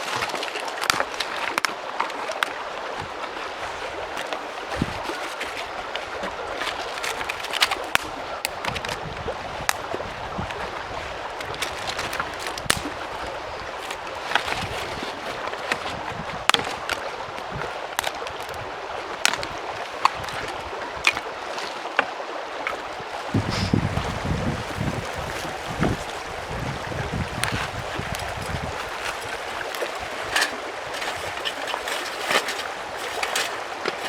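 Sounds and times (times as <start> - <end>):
mountain stream rushing: 0.0 - 34.0
wind buffeting microphone: 2.6 - 21.5, 22.7 - 34.0.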